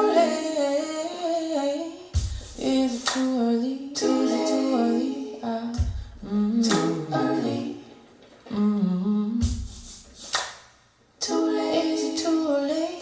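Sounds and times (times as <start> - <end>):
humming voices in harmony: 0.0 - 9.5, 11.2 - 13.0.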